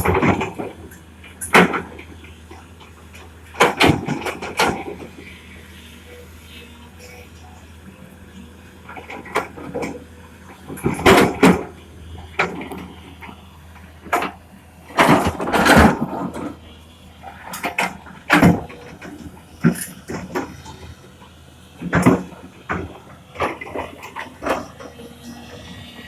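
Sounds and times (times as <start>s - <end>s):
excavator engine hum: 0.0s - 26.0s.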